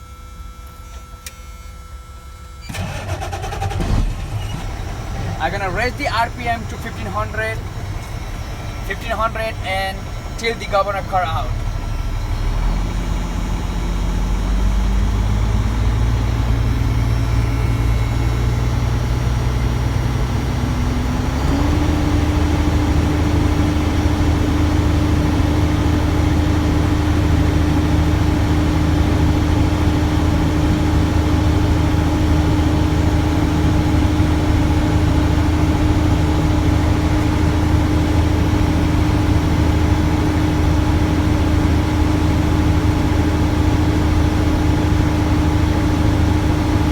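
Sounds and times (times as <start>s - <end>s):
diesel truck engine: 2.0s - 46.9s.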